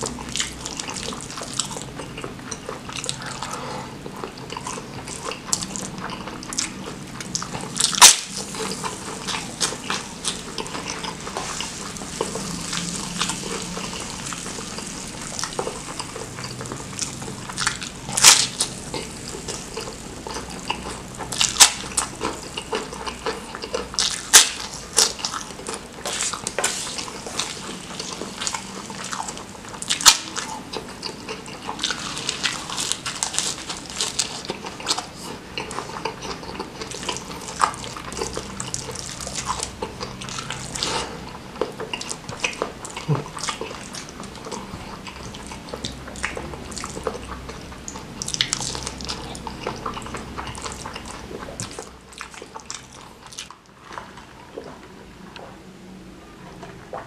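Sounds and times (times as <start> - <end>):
wet chewing and lip-smacking: 0.0 - 55.6.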